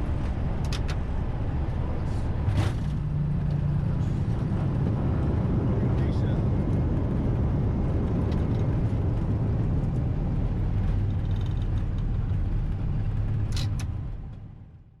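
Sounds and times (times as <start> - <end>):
airplane landing rollout noise: 0.0 - 14.2.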